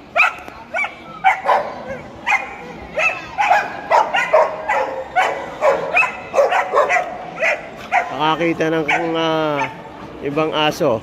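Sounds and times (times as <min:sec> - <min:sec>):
dog barking: 0:00.2 - 0:08.2, 0:08.8 - 0:09.8.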